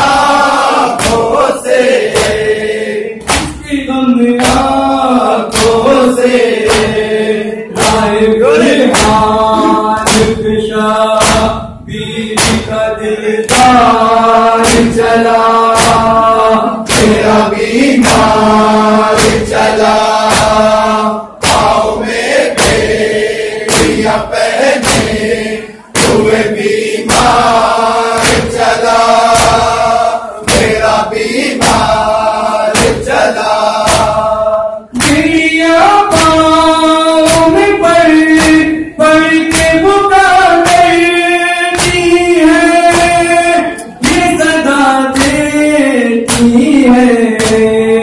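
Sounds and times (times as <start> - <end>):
men chanting a lament: 0.0 - 48.0.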